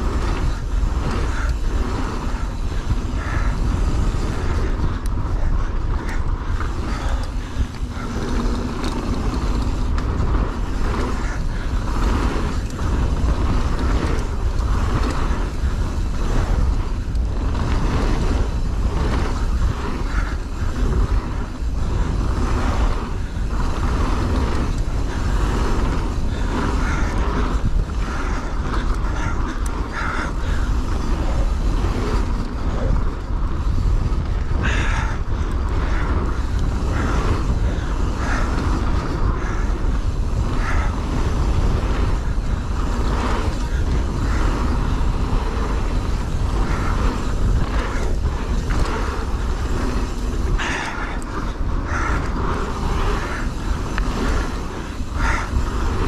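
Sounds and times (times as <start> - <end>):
bike chain and frame rattling: 0.0 - 56.0
wind rumble on microphone: 0.0 - 56.0.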